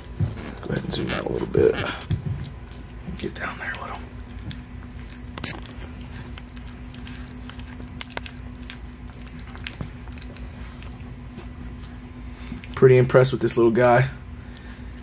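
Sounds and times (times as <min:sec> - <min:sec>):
low hum: 0:00.0 - 0:15.0
puppy eating wet food: 0:00.0 - 0:15.0.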